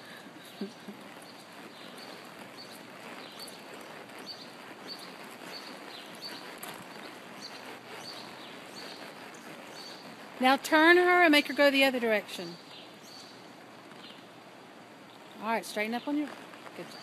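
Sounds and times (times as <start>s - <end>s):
horse hooves on dirt: 0.0s - 17.0s
steady background hiss: 0.0s - 17.0s.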